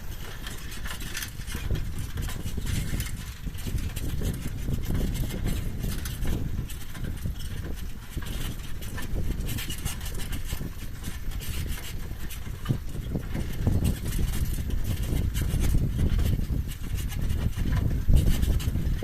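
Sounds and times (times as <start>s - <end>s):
vehicle rolling with low rumble: 0.0s - 19.0s
wheel squeaking: 0.0s - 19.0s.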